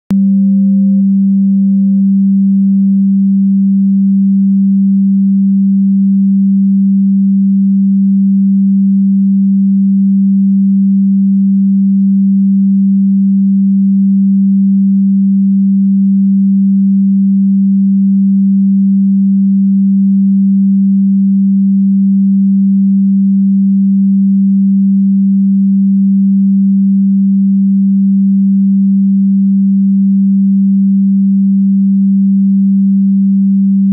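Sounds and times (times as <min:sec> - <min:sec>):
low electronic sine tone: 0:00.1 - 0:33.9.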